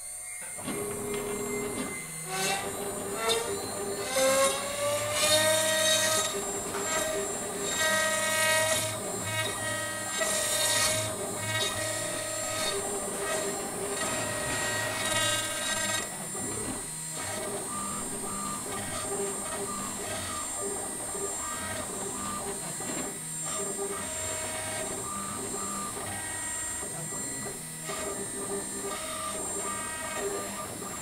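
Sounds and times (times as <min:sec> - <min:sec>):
router cutting wood: 0:00.0 - 0:31.0
router spindle whine: 0:00.0 - 0:31.0.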